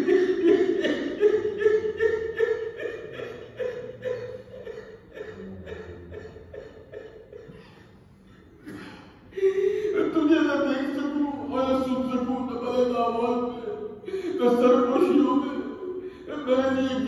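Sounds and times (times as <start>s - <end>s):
man sobbing: 0.0s - 17.0s.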